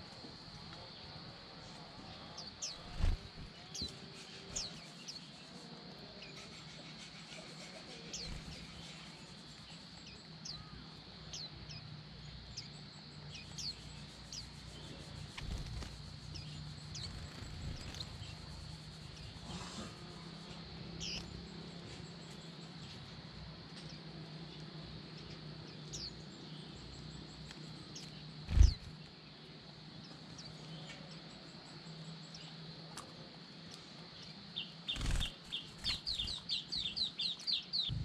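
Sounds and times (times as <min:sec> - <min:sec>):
birds chirping: 0:01.7 - 0:23.1, 0:23.7 - 0:29.2, 0:34.2 - 0:38.0.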